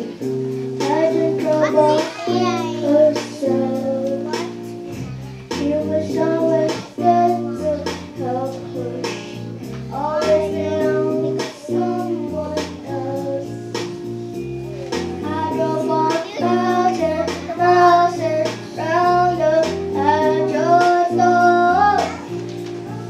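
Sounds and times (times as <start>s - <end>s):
boy singing into a microphone: 0.0s - 13.8s, 14.8s - 23.0s
instrumental accompaniment of chords: 0.0s - 23.0s.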